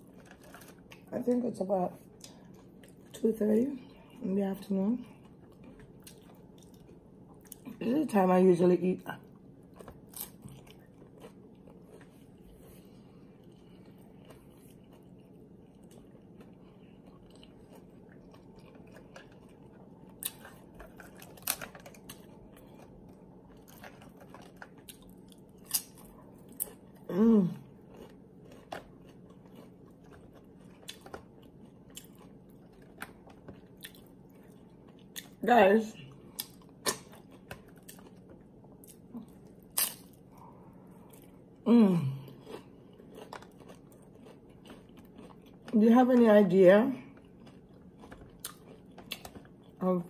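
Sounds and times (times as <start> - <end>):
chewing and crunching chips: 0.0 - 50.0
low steady hum: 0.0 - 50.0.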